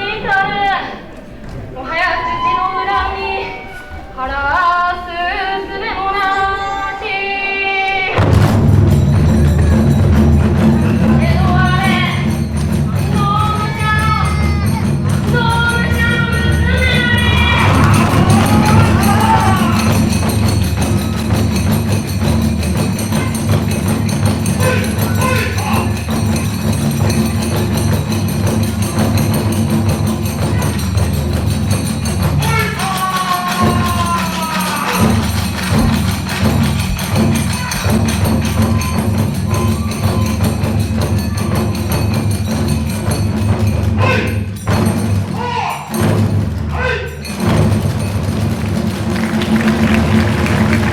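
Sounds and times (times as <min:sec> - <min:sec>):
hand cymbals clashing: 0:08.0 - 0:50.9
taiko drums beating: 0:08.2 - 0:50.9.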